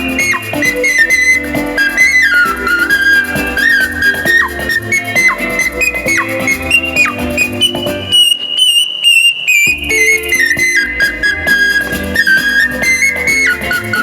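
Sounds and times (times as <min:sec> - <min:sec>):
musical accompaniment: 0:00.0 - 0:14.0
ocarina melody: 0:00.0 - 0:14.0.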